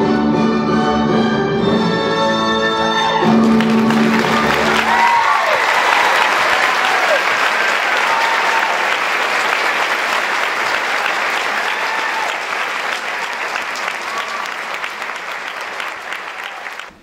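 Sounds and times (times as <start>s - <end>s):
audience applauding: 3.2s - 17.0s.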